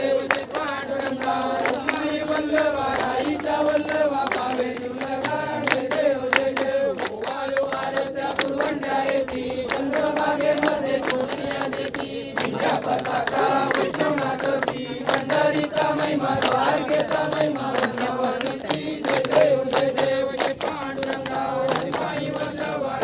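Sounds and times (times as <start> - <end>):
crowd singing in unison: 0.0 - 23.0
people clapping along: 0.0 - 23.0.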